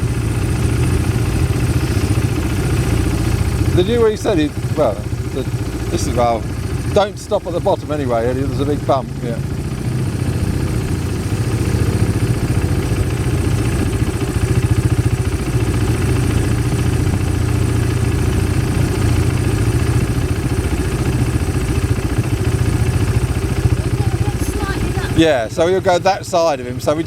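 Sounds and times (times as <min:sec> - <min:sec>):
quad bike engine idling: 0:00.0 - 0:27.0.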